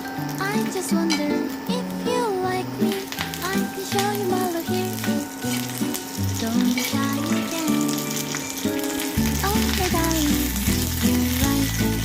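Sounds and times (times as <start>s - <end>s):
background music: 0.0s - 12.0s
food sizzling in hot oil: 0.0s - 12.0s.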